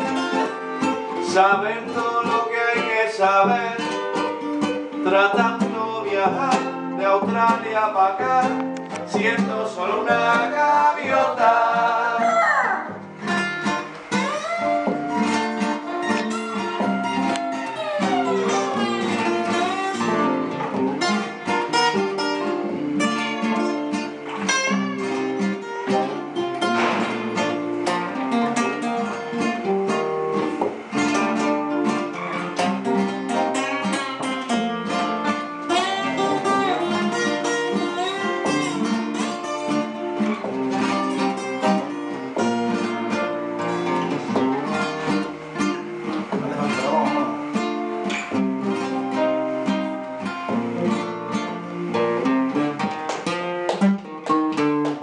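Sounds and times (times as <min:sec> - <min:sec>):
acoustic guitars playing: 0:00.0 - 0:55.0.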